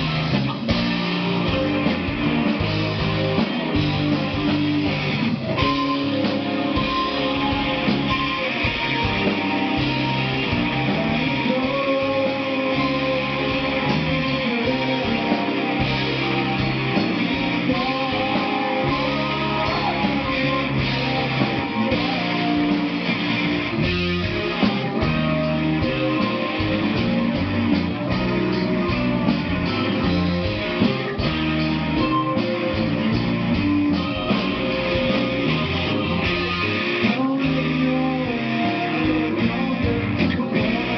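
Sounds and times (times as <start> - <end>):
electric guitar: 0.0 - 40.9
rock band playing live: 0.0 - 40.9.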